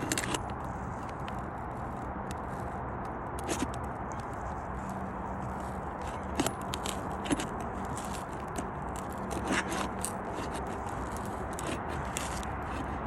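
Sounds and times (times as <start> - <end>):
roof shingle scraping and crackling: 0.0 - 13.0.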